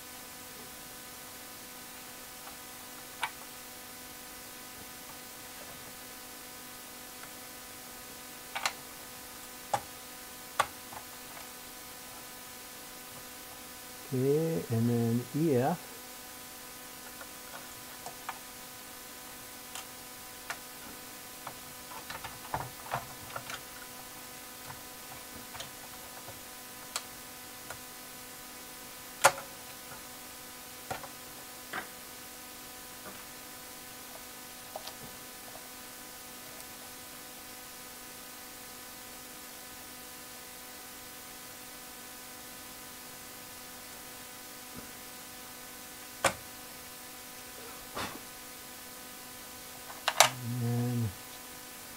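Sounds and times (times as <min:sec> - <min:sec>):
electrical hum: 0:00.0 - 0:51.9.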